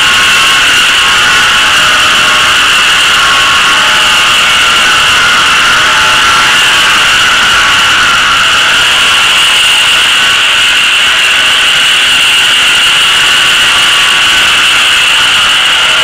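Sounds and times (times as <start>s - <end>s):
steady mechanical whir: 0.0s - 16.0s.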